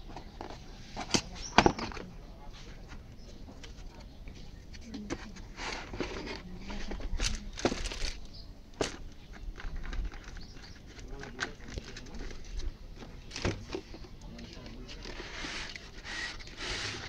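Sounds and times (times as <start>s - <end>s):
cardboard rustling and scraping: 0.0s - 17.0s.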